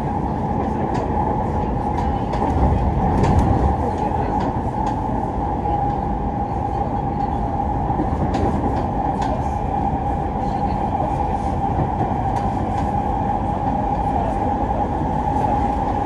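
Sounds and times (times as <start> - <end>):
wheel-and-rail rumble: 0.0 - 16.0.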